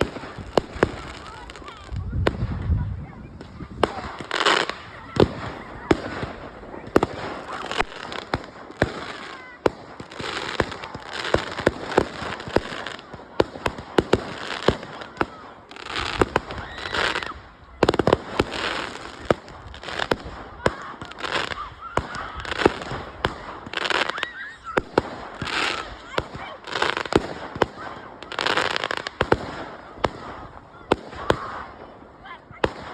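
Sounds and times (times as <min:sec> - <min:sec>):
fireworks bangs: 0:00.0 - 0:32.9
fireworks crackle and hiss: 0:00.0 - 0:32.9.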